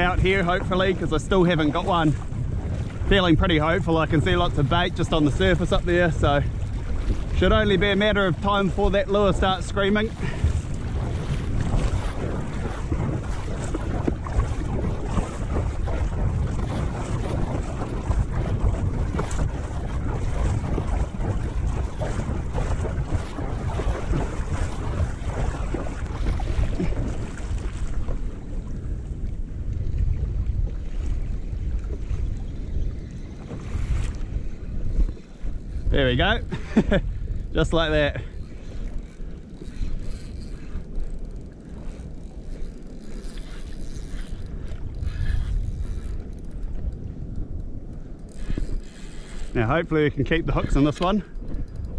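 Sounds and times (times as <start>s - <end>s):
water lapping against hull: 0.0s - 51.9s
wind buffeting microphone: 0.0s - 51.9s.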